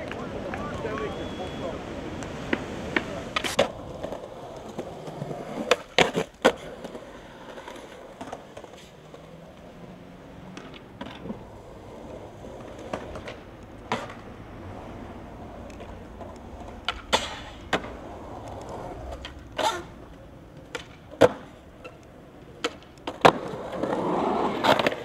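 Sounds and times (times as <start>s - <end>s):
skateboard wheels rolling on concrete: 0.0s - 25.0s
skateboard clacks and knocks: 2.2s - 25.0s.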